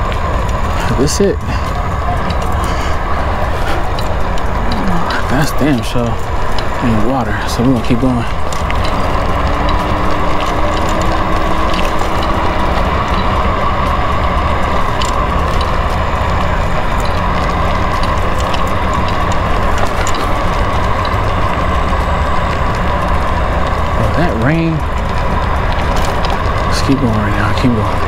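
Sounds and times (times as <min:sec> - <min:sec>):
steady whine: 0:00.0 - 0:28.0
vehicle tyres rumbling on asphalt: 0:00.0 - 0:28.0.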